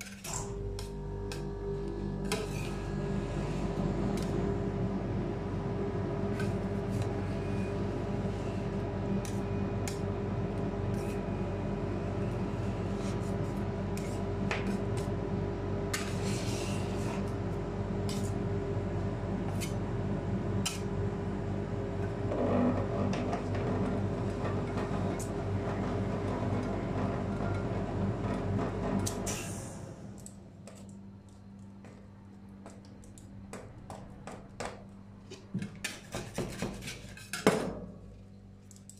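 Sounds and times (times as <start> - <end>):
steady hum: 0.0 - 36.2.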